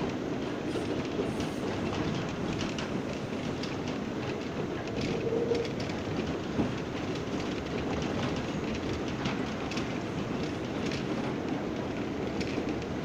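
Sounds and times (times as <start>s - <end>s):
train wheels rumbling on rail: 0.0s - 13.0s
wheels clicking over rail joints: 1.0s - 13.0s.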